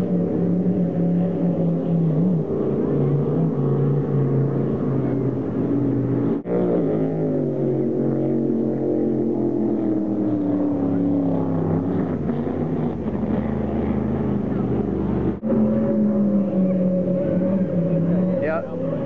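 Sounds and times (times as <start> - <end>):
powerboat engines passing: 0.0 - 19.0.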